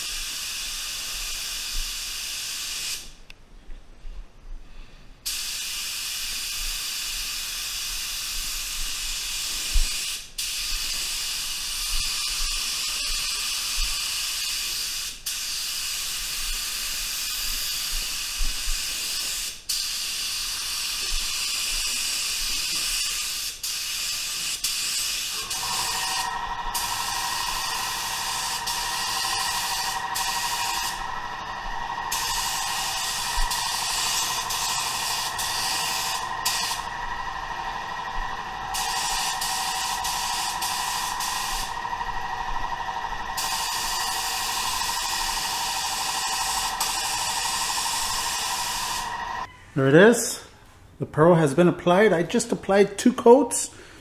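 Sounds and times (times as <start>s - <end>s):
spray gun air hissing: 0.0s - 3.2s, 5.2s - 49.5s.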